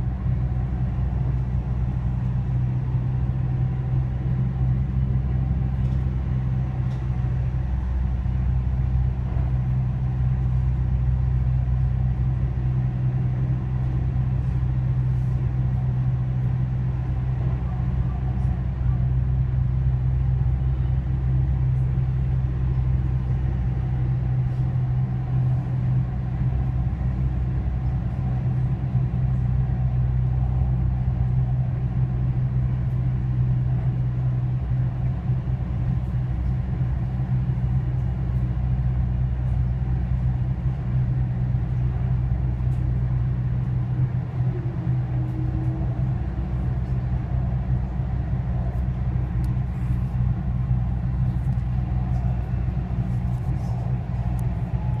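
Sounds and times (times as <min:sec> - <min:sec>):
metro train rumbling: 0:00.0 - 0:55.0.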